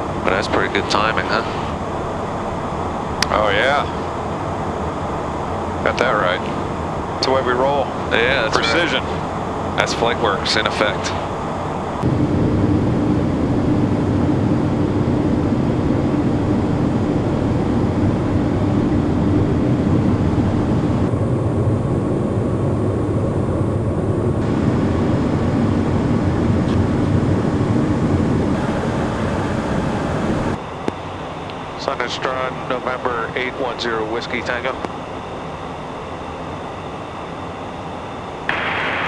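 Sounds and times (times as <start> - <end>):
jet airflow and engine drone: 0.0 - 39.0.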